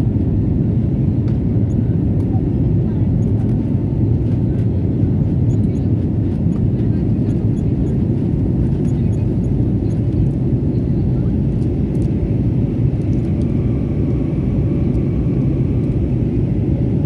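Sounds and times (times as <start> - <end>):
airliner engine and airflow rumble: 0.0 - 17.0.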